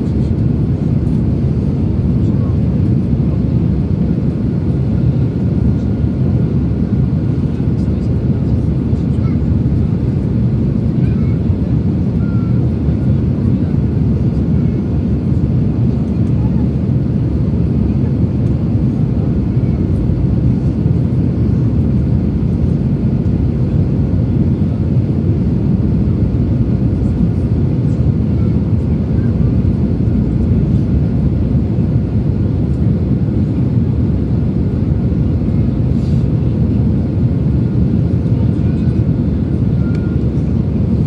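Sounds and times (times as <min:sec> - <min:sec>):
jet airliner engine rumble: 0:00.0 - 0:41.0.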